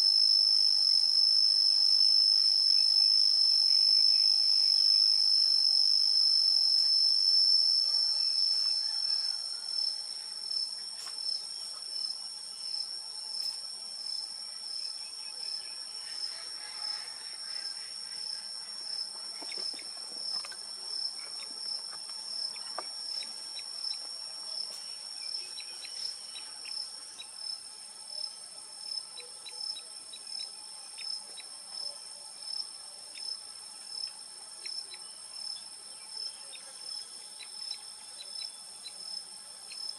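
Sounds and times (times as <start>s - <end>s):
insects calling: 0.0s - 39.9s.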